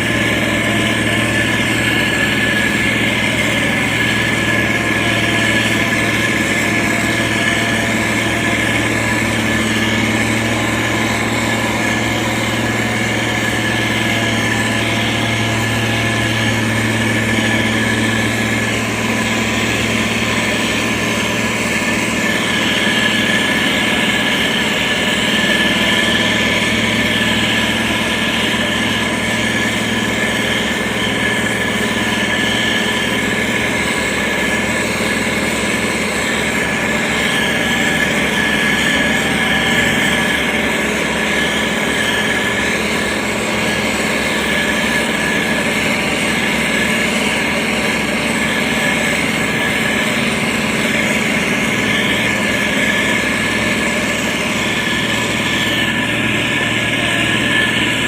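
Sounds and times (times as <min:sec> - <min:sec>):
heavy machine engine running: 0:00.0 - 0:58.0
mechanical whine: 0:00.0 - 0:58.0.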